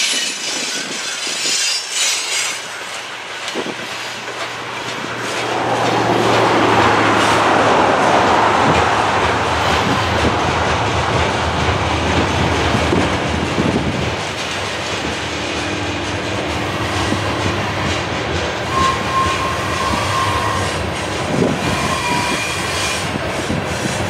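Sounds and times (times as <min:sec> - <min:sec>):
freight wheels rumbling and clicking: 0:00.0 - 0:24.0.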